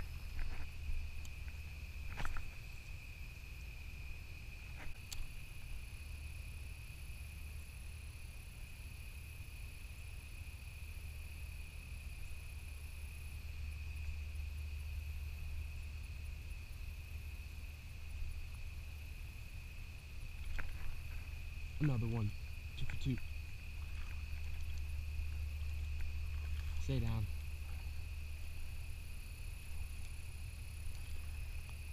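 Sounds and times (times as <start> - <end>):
insect chorus trilling: 0.0 - 31.9.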